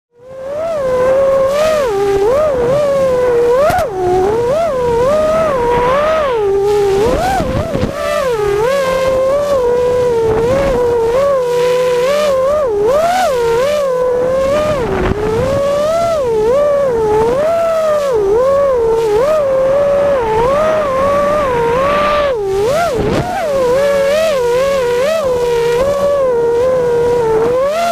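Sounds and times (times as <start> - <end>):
small high-revving motor whining: 0.1 - 27.9.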